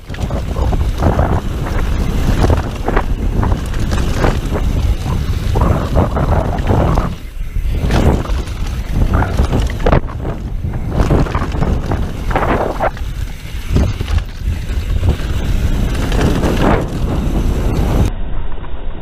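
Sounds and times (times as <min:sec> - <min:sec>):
bike tyres rumbling over dirt: 0:00.0 - 0:18.1
wind buffeting microphone: 0:00.0 - 0:18.1.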